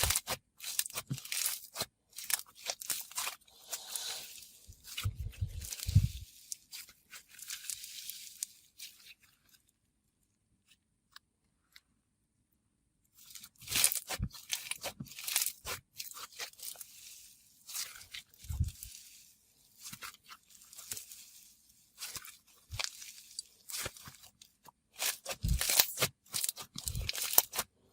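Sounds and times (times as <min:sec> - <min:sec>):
slime tearing and squishing: 0:00.0 - 0:09.7, 0:13.2 - 0:27.8.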